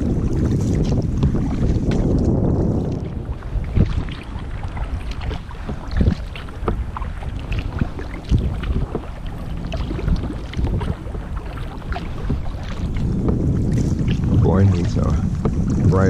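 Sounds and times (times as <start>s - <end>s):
paddle splashing in water: 0.0s - 16.0s
water lapping along hull: 0.0s - 16.0s
wind rumble on microphone: 0.0s - 16.0s.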